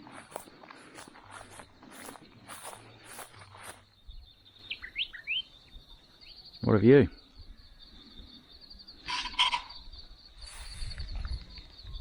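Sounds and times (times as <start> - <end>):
insect chorus pulsing: 0.0 - 12.0.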